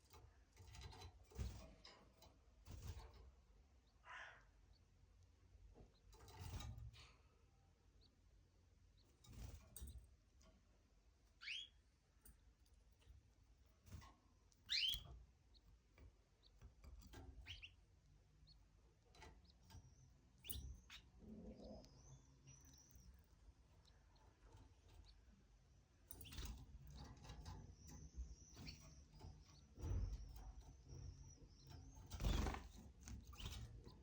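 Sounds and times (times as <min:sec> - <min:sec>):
canary chirping: 0:00.0 - 0:34.0.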